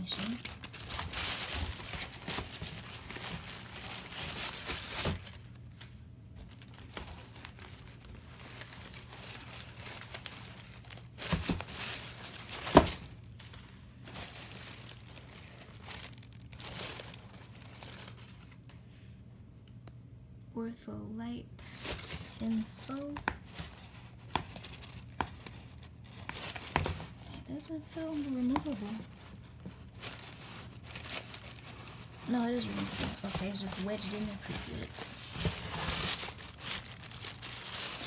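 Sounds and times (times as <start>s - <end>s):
tissue paper crinkling: 0.0s - 18.7s, 21.6s - 38.0s.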